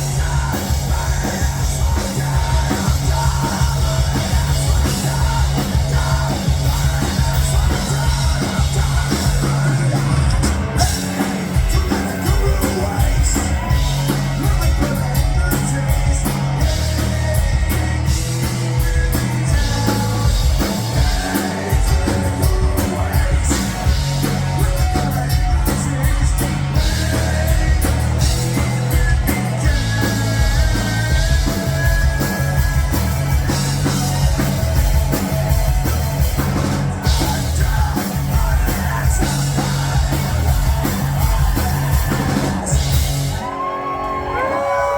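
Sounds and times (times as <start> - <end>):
person singing: 0.0 - 35.8, 36.4 - 44.9
drum kit: 0.0 - 44.9
loud rock music: 0.0 - 44.9.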